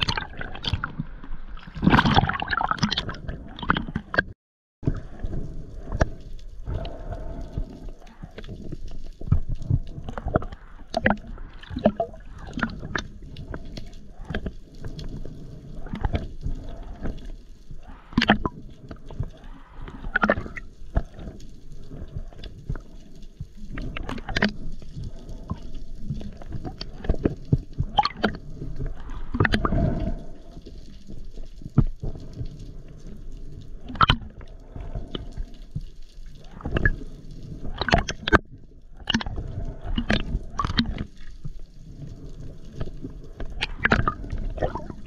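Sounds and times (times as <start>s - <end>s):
water gurgling and sloshing: 0.0s - 45.0s.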